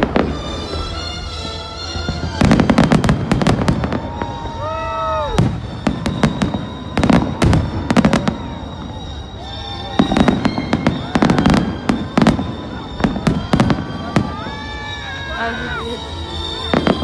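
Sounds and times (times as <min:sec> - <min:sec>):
fireworks bangs and crackling: 0:00.0 - 0:17.0
pitched whistling tones: 0:00.0 - 0:17.0.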